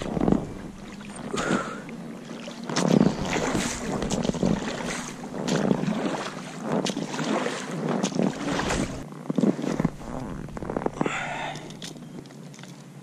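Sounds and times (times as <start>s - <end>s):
oars splashing through water: 0.0s - 12.8s
light knocks of oars: 0.0s - 12.9s.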